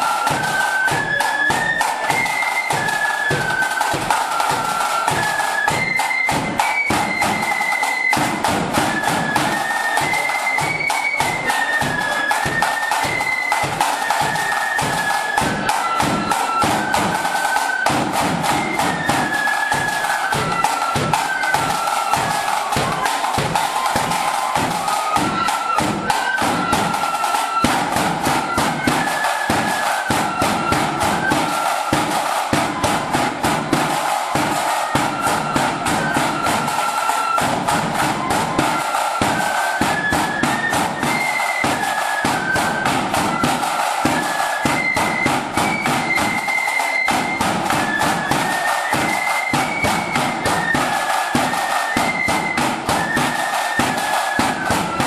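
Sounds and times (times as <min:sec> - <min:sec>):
flutes playing melody: 0:00.0 - 0:55.0
side drums beating march: 0:00.0 - 0:55.0.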